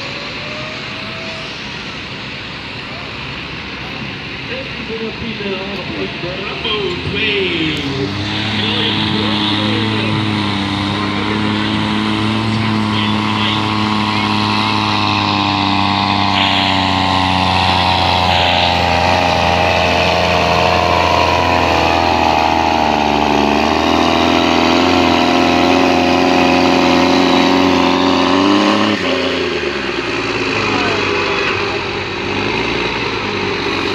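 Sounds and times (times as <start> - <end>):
tractor engine under load: 0.0 - 33.9.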